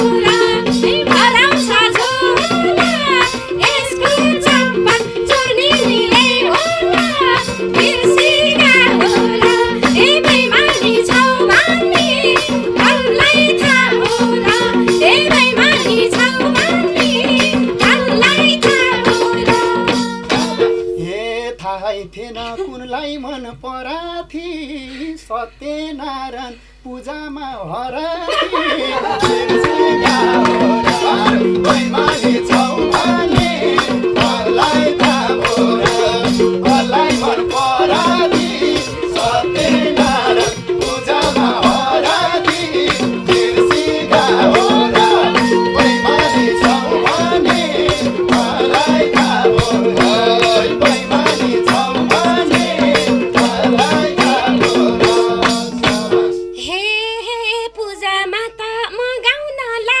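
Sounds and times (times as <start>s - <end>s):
fast hand-drum beat: 0.0s - 20.8s, 28.3s - 56.5s
rattling shaken percussion: 0.0s - 20.8s, 28.3s - 56.6s
woman singing: 0.0s - 20.9s, 28.3s - 55.9s, 56.6s - 60.0s.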